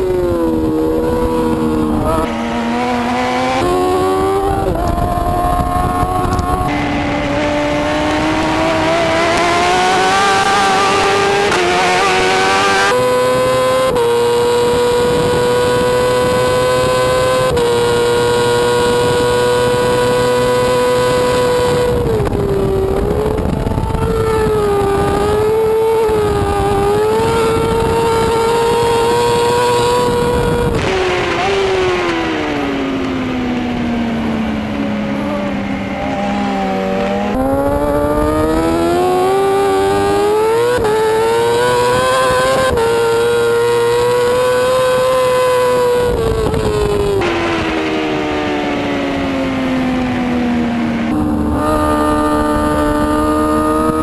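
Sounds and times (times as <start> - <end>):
racing motorcycle engine high revs: 0.0 - 54.0
rushing wind: 0.0 - 54.0.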